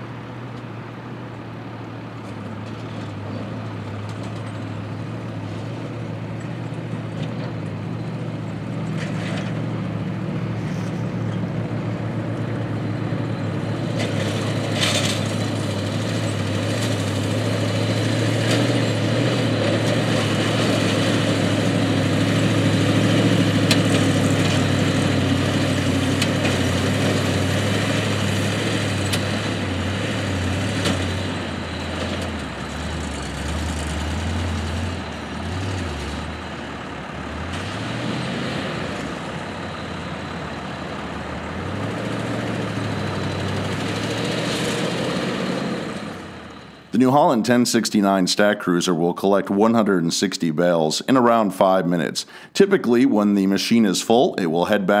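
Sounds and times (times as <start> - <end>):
farm machine engine running: 2.3 - 55.0.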